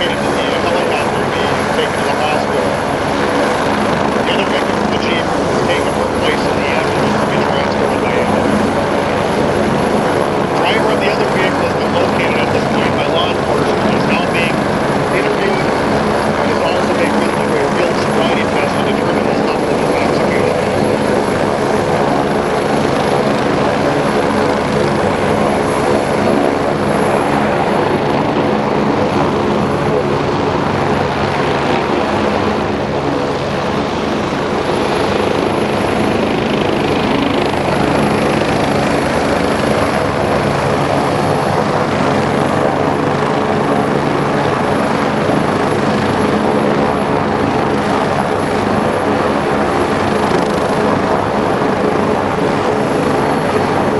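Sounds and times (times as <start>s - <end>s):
helicopter rotor and turbine drone: 0.0s - 53.9s.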